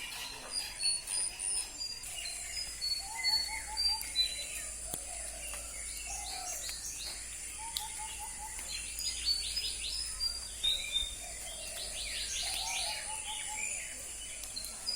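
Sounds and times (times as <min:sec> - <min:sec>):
wild birds chirping: 0:00.0 - 0:14.9.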